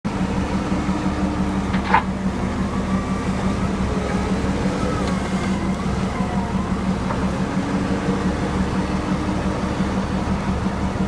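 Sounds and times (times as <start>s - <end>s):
diesel engine running: 0.1s - 11.0s
hydraulic whine: 0.1s - 11.0s.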